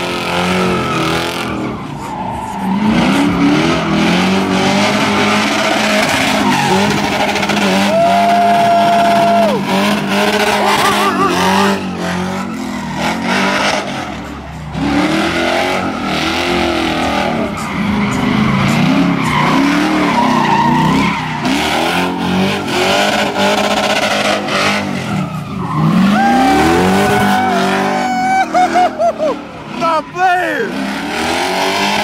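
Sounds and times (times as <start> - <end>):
car engine revving: 0.0 - 32.0
tyres screeching: 5.0 - 31.1.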